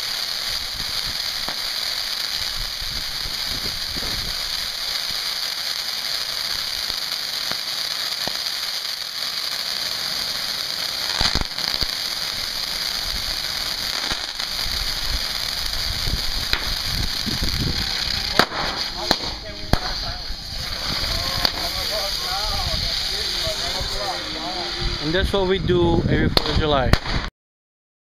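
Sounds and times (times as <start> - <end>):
firework pops: 0.0 - 22.8, 26.3 - 27.3
fountain firework hissing: 0.0 - 27.3.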